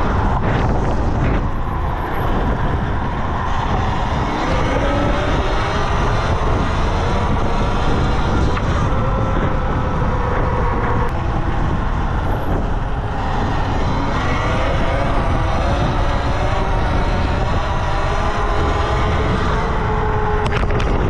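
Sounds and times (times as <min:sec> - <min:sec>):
electric motor whine: 0:00.0 - 0:21.0
wind rumble on microphone: 0:00.0 - 0:21.0.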